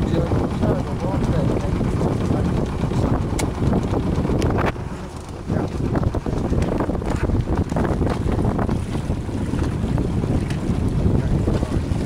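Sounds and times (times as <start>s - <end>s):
water rushing past hull: 0.0s - 12.0s
wind buffeting microphone: 0.0s - 12.0s.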